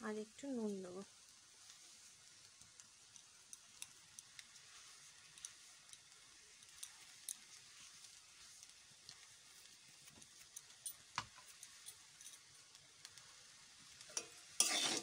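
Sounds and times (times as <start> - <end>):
rice crackling in a pan: 0.0 - 15.0
soft high hiss: 0.0 - 15.0.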